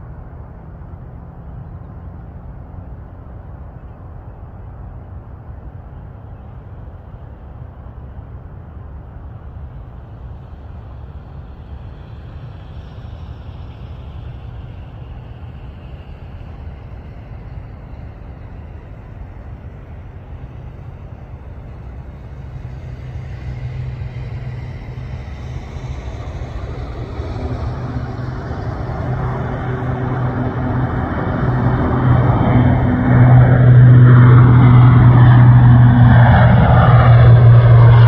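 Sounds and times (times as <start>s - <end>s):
turboprop aircraft engines droning: 0.0s - 38.0s.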